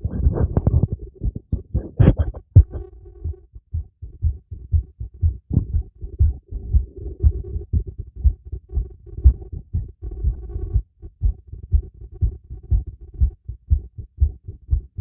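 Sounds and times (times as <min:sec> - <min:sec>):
heartbeat through stethoscope: 0:00.0 - 0:15.0.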